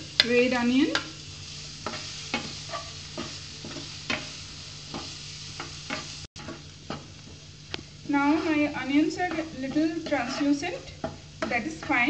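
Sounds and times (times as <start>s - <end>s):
onion sizzling in oil: 0.0s - 12.0s
spatula knocking and scraping a pan: 0.0s - 12.0s.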